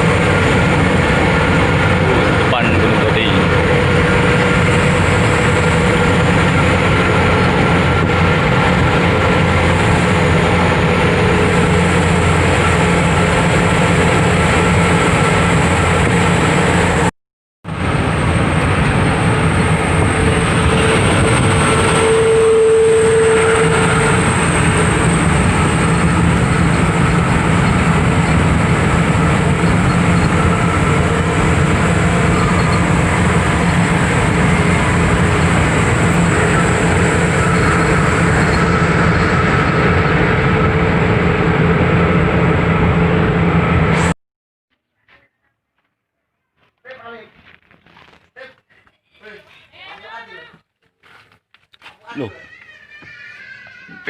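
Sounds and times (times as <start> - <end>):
road rumble: 0.0 - 17.1, 17.7 - 44.2
truck engine drone: 0.0 - 17.1, 17.7 - 44.2.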